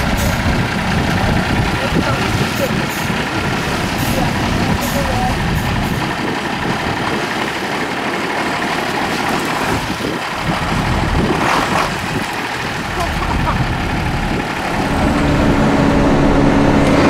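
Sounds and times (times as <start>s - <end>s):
truck engine at low revs: 0.0s - 17.0s.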